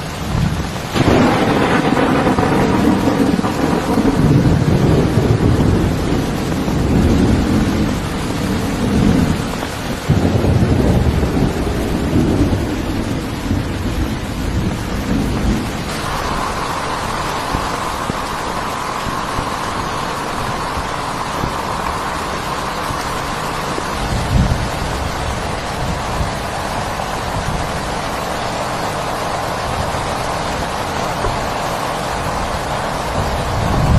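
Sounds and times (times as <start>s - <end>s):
heavy rain hissing: 0.0s - 33.9s
thunder rumbling: 0.0s - 33.9s.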